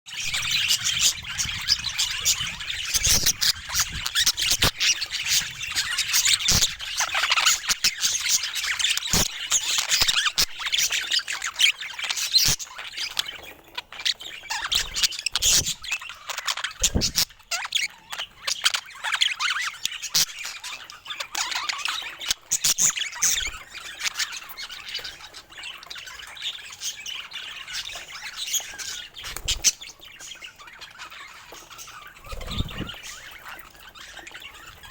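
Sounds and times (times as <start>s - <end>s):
budgerigars chattering and squawking: 0.1s - 34.9s.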